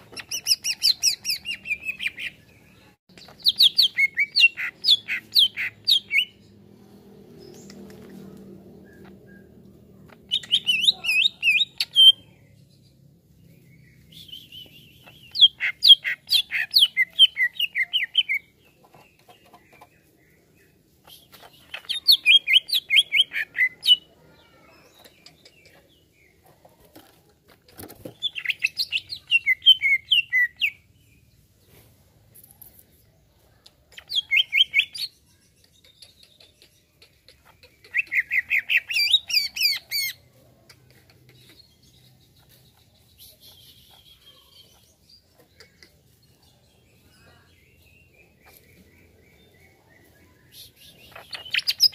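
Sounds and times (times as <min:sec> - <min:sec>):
bird singing chirping phrases: 0:00.0 - 0:26.8, 0:27.7 - 0:31.4, 0:33.8 - 0:51.9.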